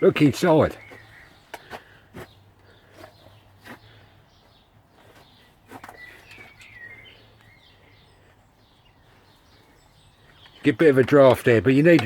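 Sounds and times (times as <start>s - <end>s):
faint bird chirping: 0.0s - 11.3s.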